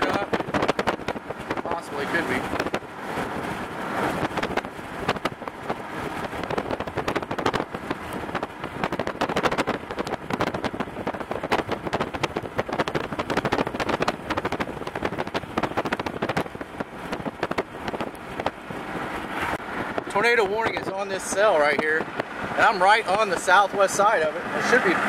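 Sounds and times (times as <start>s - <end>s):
rain drumming on a car: 0.0s - 24.2s
road and wind noise: 0.0s - 25.0s.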